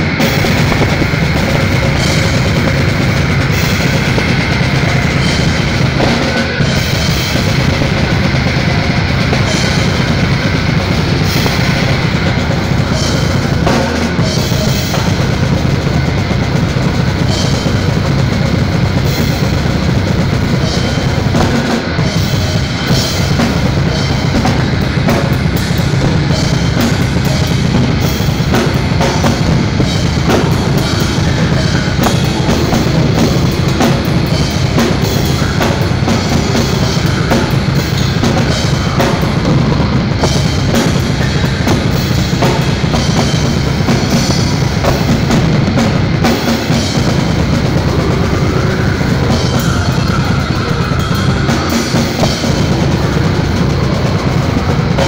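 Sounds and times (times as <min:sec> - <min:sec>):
bass drum: 0:00.0 - 0:55.0
cymbals: 0:00.0 - 0:55.0
live band playing loud: 0:00.0 - 0:55.0.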